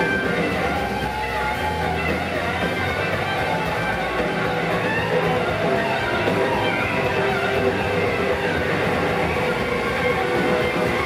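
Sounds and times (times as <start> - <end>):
live rock band playing loudly: 0.0 - 11.0.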